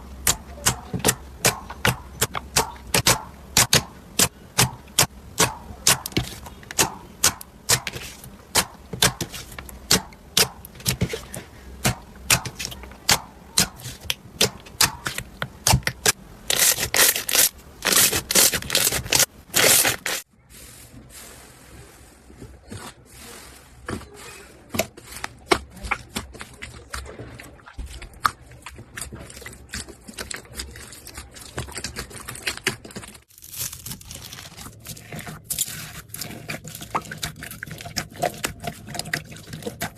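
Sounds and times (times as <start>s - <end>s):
fine crackling of slime: 5.0s - 39.9s.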